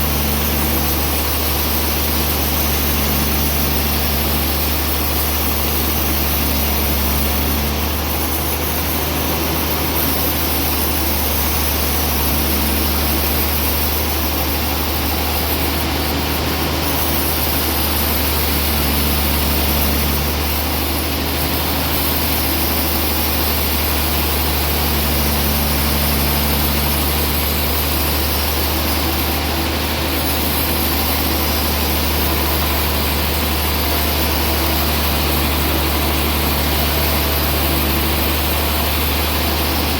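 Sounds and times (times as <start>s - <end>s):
higher machine hum: 0.0s - 39.9s
sawmill machinery droning: 0.0s - 39.9s.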